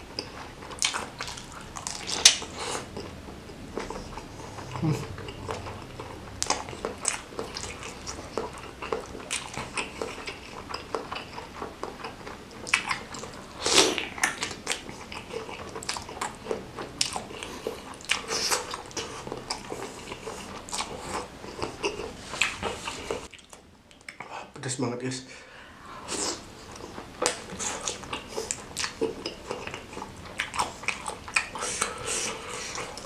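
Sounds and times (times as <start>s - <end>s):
chewing and lip smacking: 0.1s - 24.3s, 26.2s - 33.0s.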